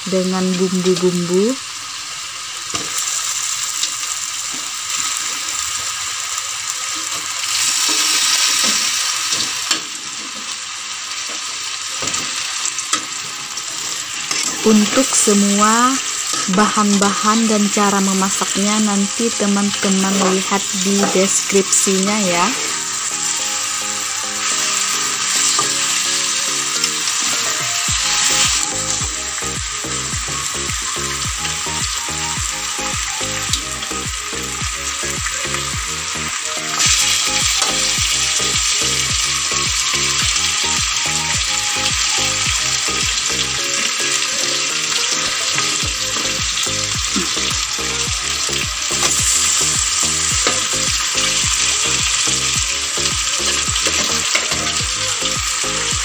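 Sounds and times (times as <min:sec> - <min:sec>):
chicken sizzling in a wok: 0:00.0 - 0:56.0.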